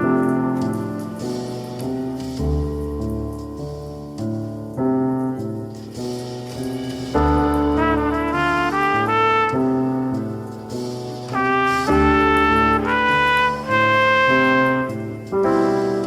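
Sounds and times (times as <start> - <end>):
slow jazz trumpet melody: 0.0 - 16.0.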